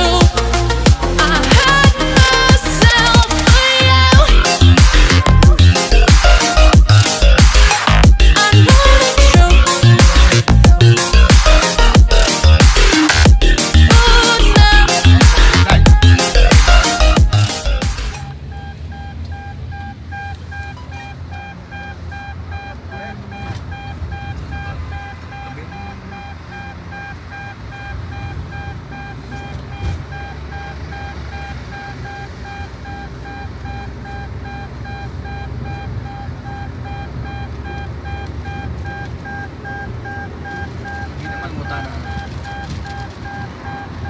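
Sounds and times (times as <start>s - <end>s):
electronic warning beep: 0.0s - 44.0s
low vehicle rumble: 0.0s - 44.0s.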